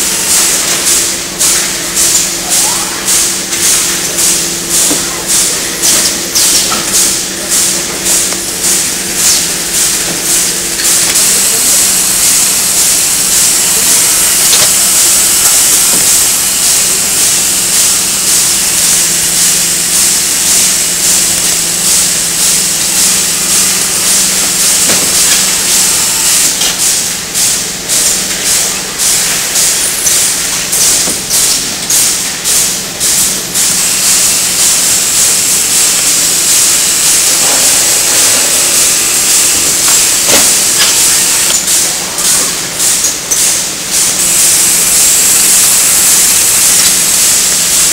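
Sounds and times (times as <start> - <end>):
packing machine hissing and humming: 0.0 - 47.9.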